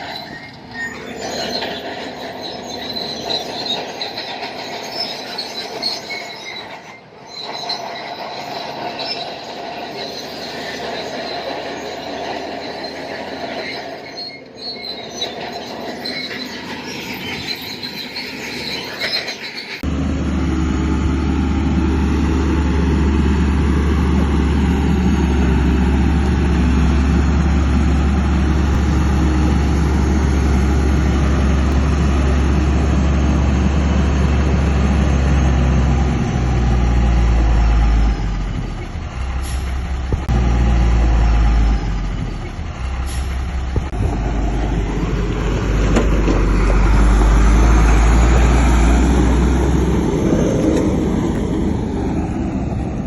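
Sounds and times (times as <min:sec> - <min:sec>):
heavy diesel engines droning: 0:00.0 - 0:53.0.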